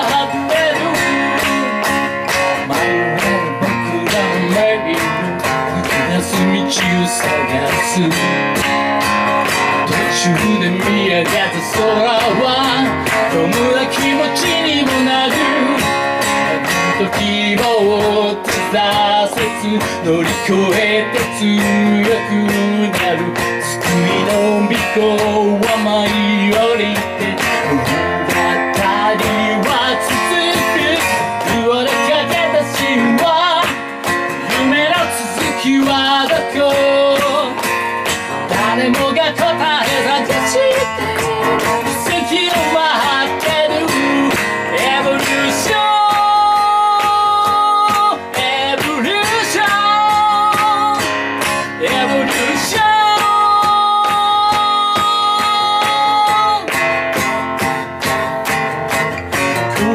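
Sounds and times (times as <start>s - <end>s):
man singing: 0.0s - 57.7s, 59.4s - 59.9s
acoustic guitar strumming: 0.0s - 59.9s.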